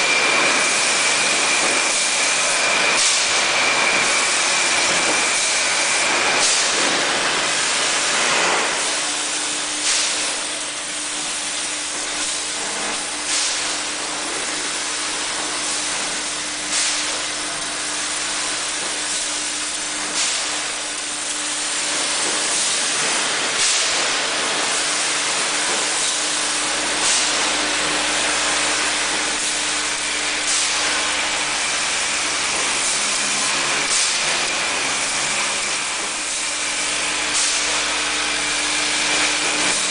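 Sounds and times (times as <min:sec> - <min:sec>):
bottling machinery hissing din: 0:00.0 - 0:39.9.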